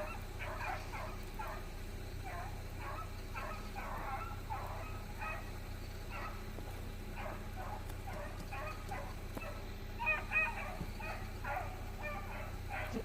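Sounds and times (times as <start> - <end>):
beagles baying: 0.0 - 13.0.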